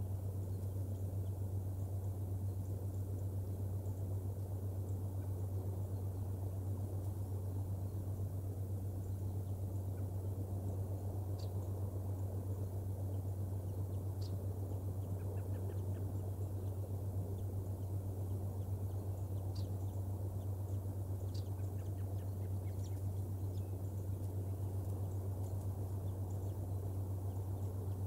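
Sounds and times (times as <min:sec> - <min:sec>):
faint bird chirps: 0:00.0 - 0:28.0
steady low hum: 0:00.0 - 0:28.0.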